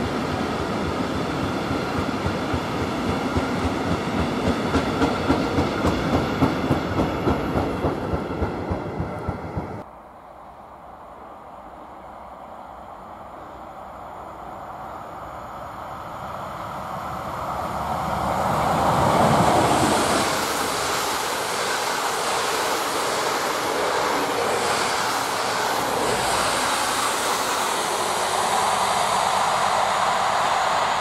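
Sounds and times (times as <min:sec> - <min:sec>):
wheels rushing on rails: 0:00.0 - 0:09.9, 0:12.9 - 0:31.0
passenger train passing at speed: 0:00.0 - 0:31.0.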